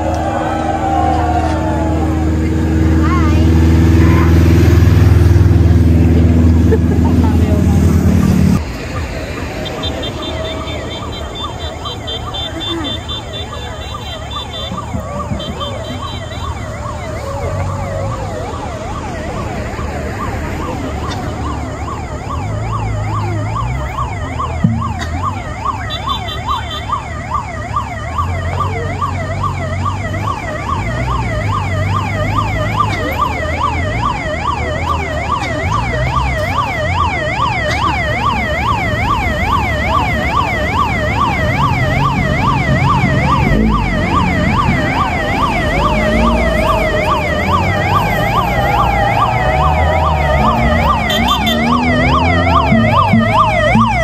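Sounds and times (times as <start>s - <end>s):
police sirens yelping: 0.0s - 54.0s.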